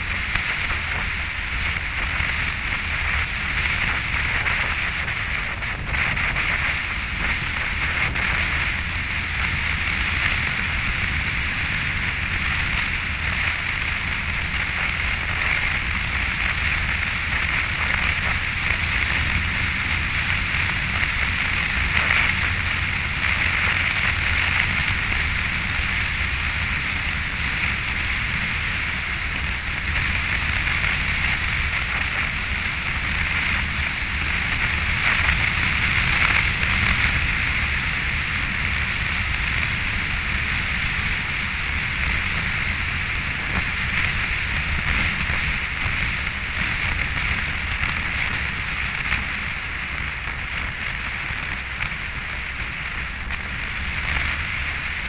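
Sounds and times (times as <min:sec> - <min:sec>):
tyre hiss on wet road: 0:00.0 - 0:55.0
wind rush on microphone: 0:00.0 - 0:55.0.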